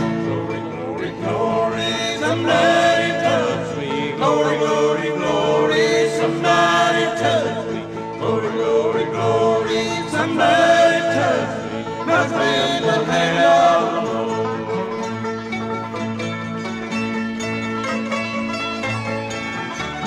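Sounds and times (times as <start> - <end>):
bluegrass band singing in harmony: 0.0 - 20.0.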